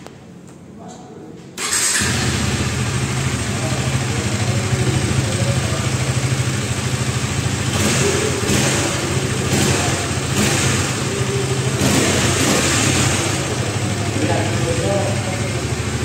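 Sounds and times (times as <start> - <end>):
motorcycle engine idling and revving: 1.6 - 16.0.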